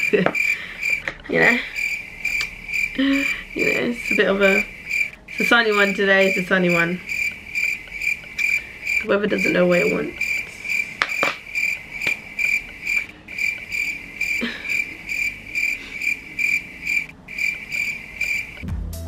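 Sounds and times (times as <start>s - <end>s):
cricket chirping: 0.0s - 18.6s.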